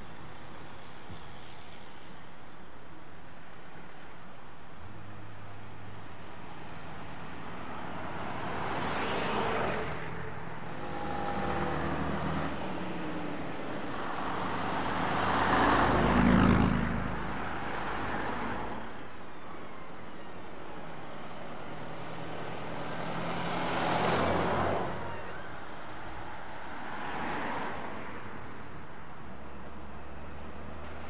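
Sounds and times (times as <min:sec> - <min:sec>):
vehicles driving past: 0:04.8 - 0:31.0.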